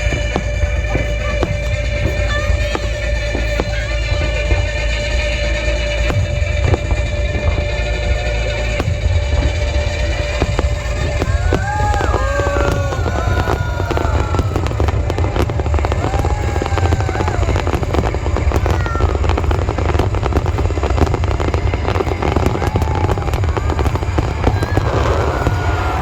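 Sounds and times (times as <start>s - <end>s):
deep rumble: 0.0s - 26.0s
fireworks crackling: 0.0s - 26.0s.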